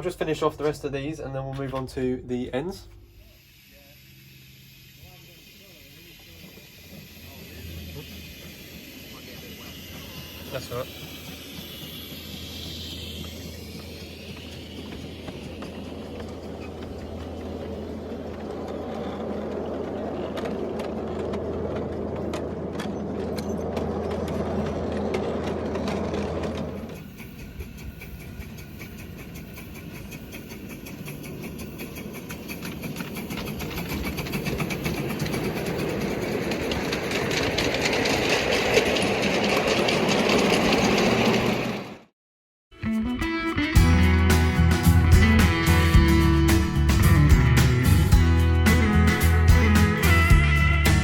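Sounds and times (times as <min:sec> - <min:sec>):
miniature train running on track: 0:00.0 - 0:42.1, 0:44.0 - 0:51.0.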